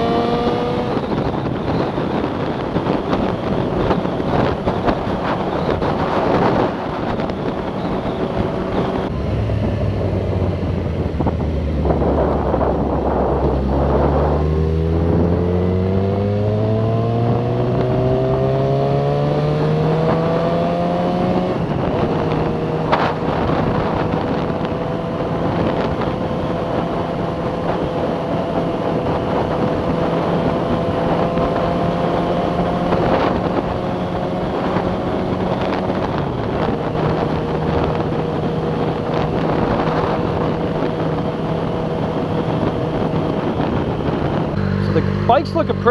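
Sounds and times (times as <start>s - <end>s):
motorcycle engine accelerating: 0.0s - 45.9s
wind rushing over microphone: 0.0s - 45.9s.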